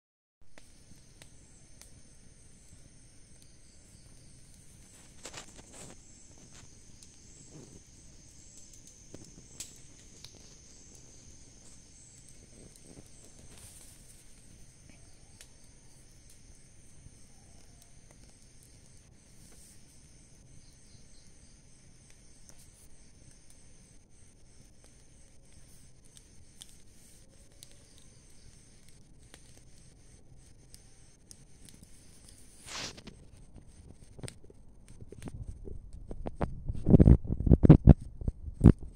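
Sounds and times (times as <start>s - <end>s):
dry leaves crackling in fire: 0.5s - 38.0s
faint steady hiss: 0.5s - 38.9s
crickets chirring: 0.6s - 38.9s.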